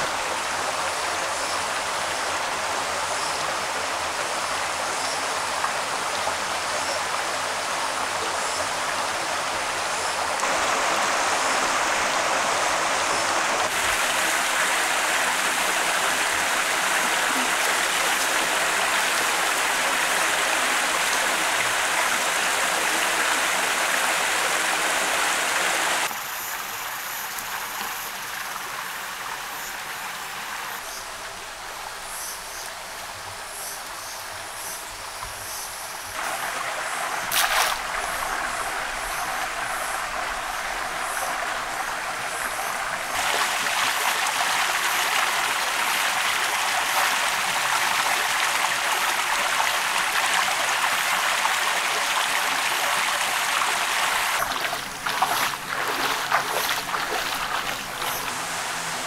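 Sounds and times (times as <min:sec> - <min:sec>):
mountain stream rushing: 0:00.0 - 0:32.1, 0:35.8 - 0:59.0.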